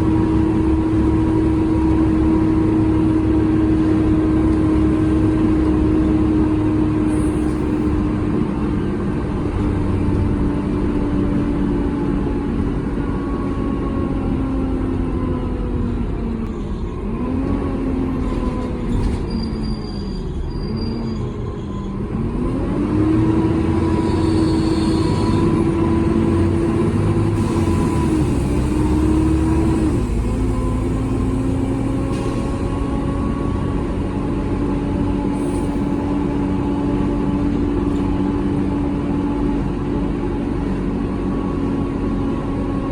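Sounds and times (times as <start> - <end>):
bus engine drone with whine: 0.0 - 42.9.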